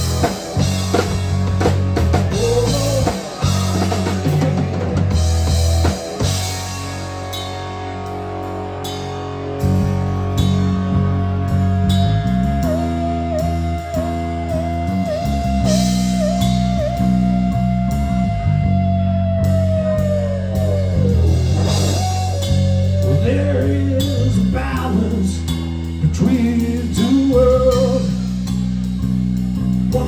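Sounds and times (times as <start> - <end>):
blues-rock band playing: 0.0 - 30.0.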